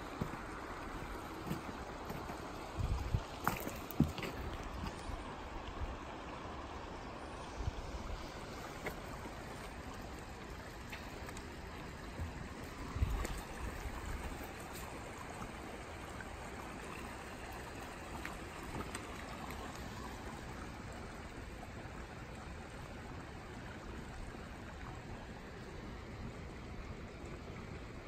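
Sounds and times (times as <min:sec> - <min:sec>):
creek trickling: 0:00.0 - 0:28.0.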